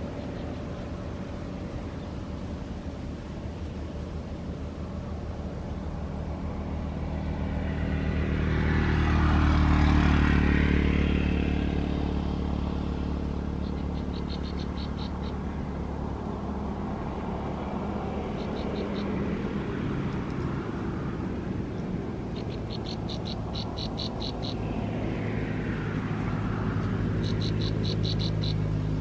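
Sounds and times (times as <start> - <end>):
vehicle engine passing: 0.0 - 29.0.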